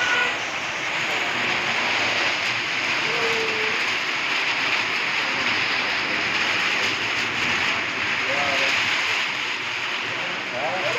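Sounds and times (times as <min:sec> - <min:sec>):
heavy rain pouring: 0:00.0 - 0:10.9.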